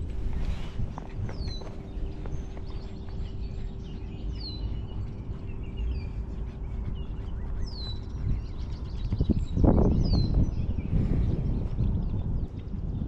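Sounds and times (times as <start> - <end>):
faint steady hum: 0.0 - 13.0
low outdoor rumble: 0.0 - 13.0
bird chirps: 1.3 - 13.0.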